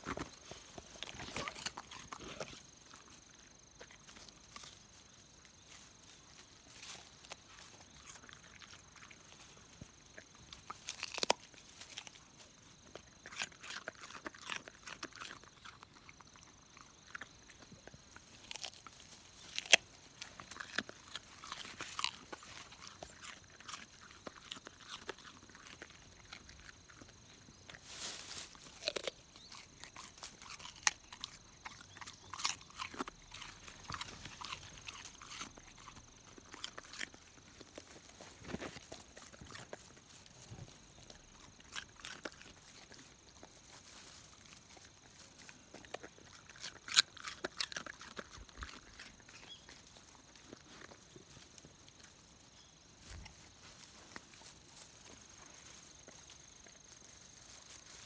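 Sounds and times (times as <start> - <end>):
dog chewing and crunching: 0.0 - 58.0.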